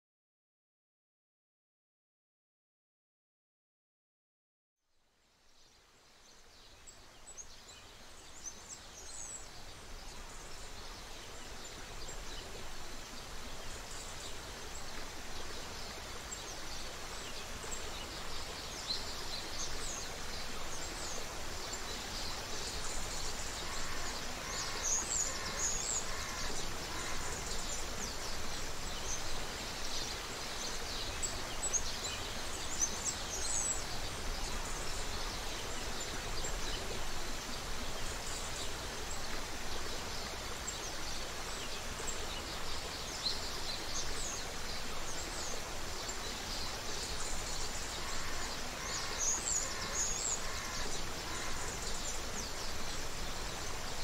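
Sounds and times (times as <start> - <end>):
creek water running: 5.2 - 54.0.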